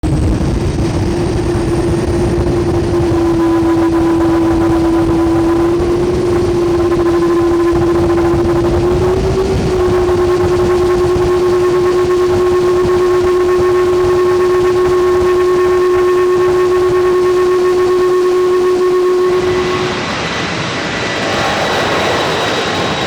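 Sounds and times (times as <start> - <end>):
aircraft howling tone: 0.0 - 23.0
low engine rumble: 0.0 - 23.0.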